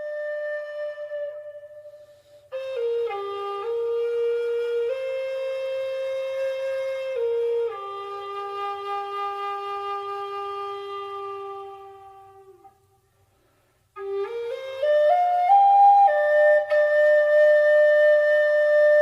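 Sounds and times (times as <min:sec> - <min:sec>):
slow solo flute melody: 0:00.0 - 0:19.0.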